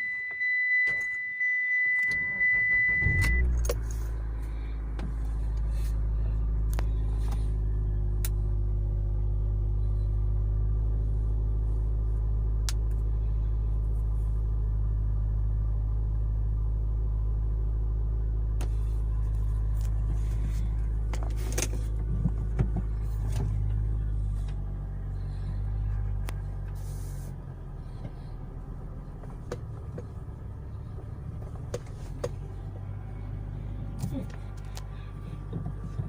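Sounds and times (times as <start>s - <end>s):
car engine low drone: 0.0s - 36.0s.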